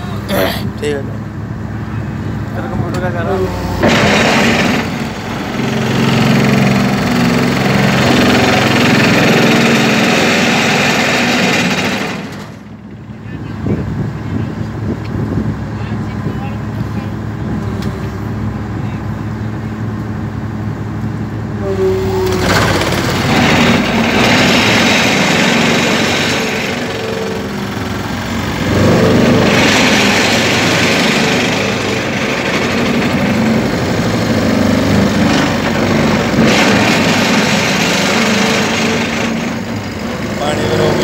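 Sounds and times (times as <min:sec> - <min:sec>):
vibratory pile driver buzzing: 0:00.0 - 0:13.1, 0:19.9 - 0:41.0.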